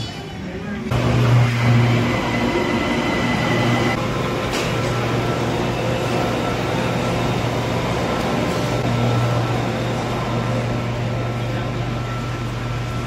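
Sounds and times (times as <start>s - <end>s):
train motor whine: 0.9s - 13.0s.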